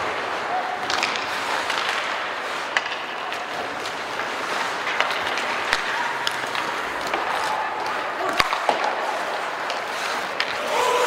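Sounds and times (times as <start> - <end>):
arena noise: 0.0 - 11.0
skates scraping ice: 0.0 - 11.0
sticks clacking on puck: 0.0 - 11.0.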